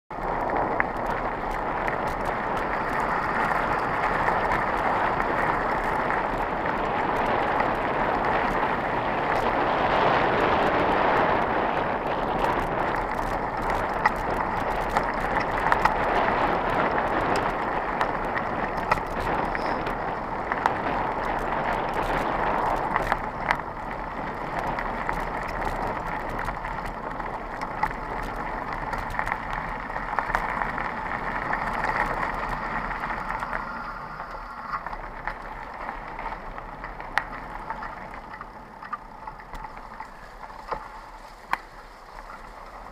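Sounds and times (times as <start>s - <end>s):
bike clicks and rattles: 0.1s - 42.9s
bike tyres on gravel: 0.1s - 42.9s.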